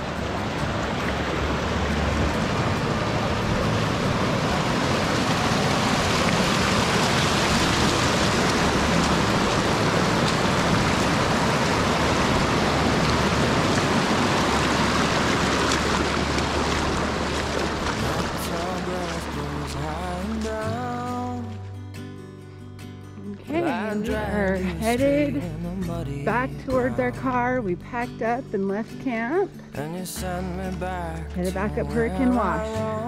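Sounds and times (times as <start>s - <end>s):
stream flowing: 0.0s - 21.8s, 23.2s - 29.7s, 31.4s - 33.0s.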